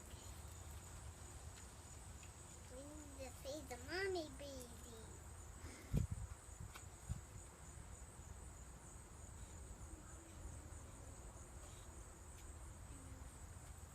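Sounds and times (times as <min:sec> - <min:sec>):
crickets chirring: 0:00.0 - 0:13.9.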